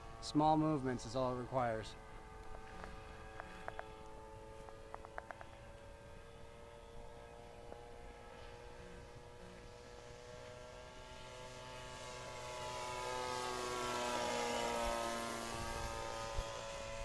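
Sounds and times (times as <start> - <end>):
model airplane engine buzzing: 0.0 - 17.0.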